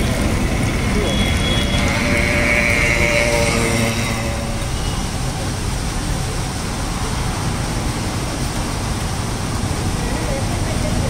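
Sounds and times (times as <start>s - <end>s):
roadside traffic rumble: 0.0s - 11.0s.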